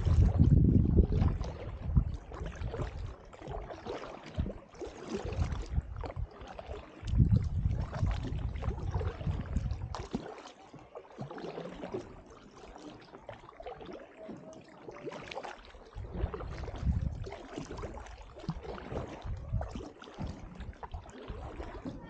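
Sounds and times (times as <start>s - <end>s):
paddle dipping into water: 0.0s - 22.0s
water dripping and splashing: 0.0s - 22.0s.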